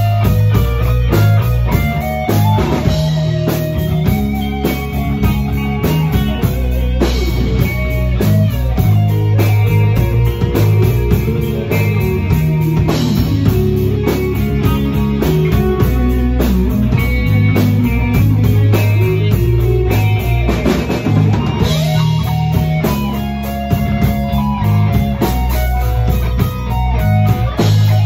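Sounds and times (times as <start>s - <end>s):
rock music on guitar and drums: 0.0s - 28.0s.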